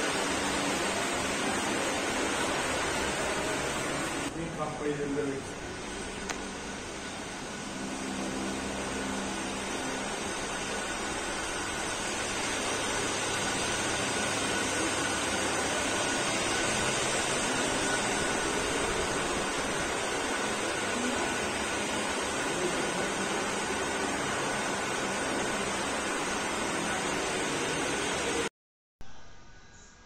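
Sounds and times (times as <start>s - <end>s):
electric fans whooshing: 0.0s - 28.5s
faint high whine: 0.0s - 30.0s.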